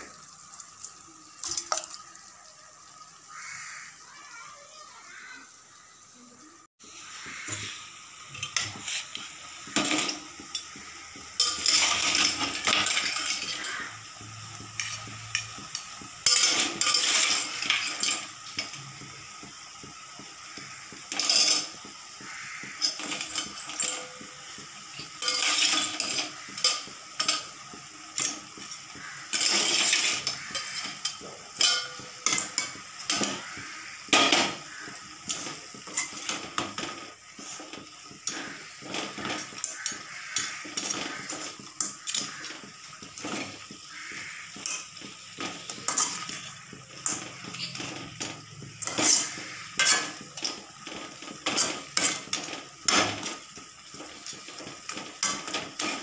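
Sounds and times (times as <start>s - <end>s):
metal spatula scraping a pan: 7.2s - 19.2s, 20.5s - 56.0s.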